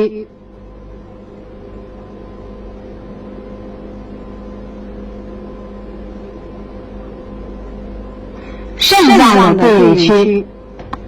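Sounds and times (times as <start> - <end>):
steady hum with hiss: 0.0 - 11.0.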